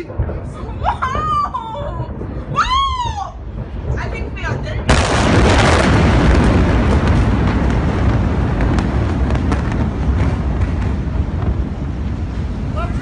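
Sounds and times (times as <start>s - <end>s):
sharp pops and crackles: 0.0s - 12.6s
deep explosion rumble: 0.0s - 13.0s.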